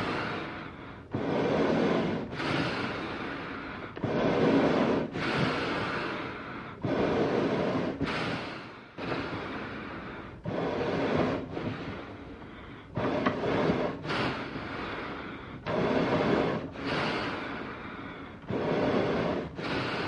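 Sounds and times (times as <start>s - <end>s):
heavy animal breathing: 0.0s - 20.0s.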